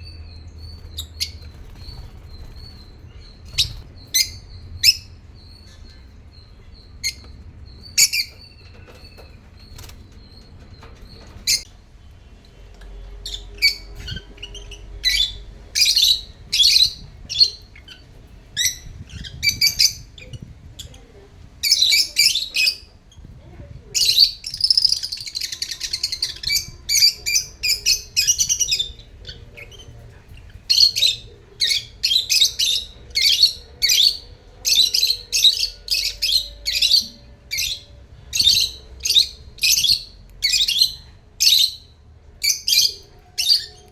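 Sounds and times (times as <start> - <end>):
lovebirds chirping: 0.0 - 43.9.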